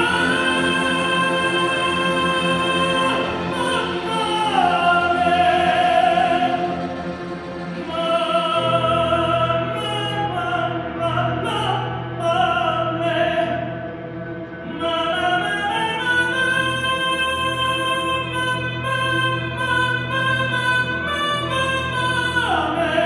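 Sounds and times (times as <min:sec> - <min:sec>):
man singing with vibrato: 0:00.0 - 0:07.2, 0:07.8 - 0:13.8, 0:14.6 - 0:23.0
string orchestra and piano: 0:00.0 - 0:23.0.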